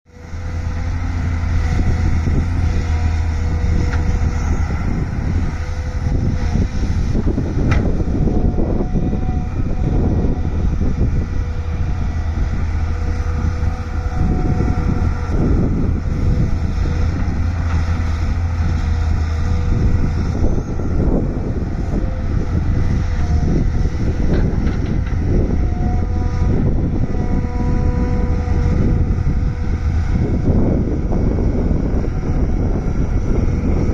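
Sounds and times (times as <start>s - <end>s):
excavator diesel engine drone: 0.1s - 33.9s.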